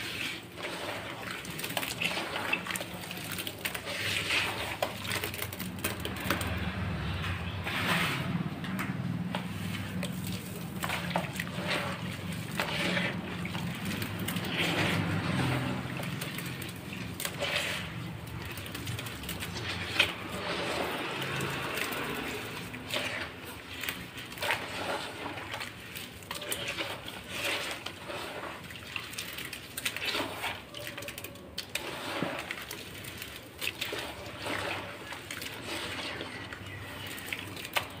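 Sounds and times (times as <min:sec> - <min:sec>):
hands squelching wet dirt: 0:00.0 - 0:38.0.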